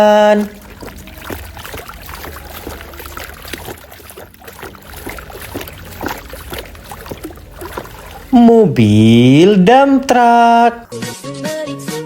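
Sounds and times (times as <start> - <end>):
water splashing and sloshing: 0.0 - 11.1.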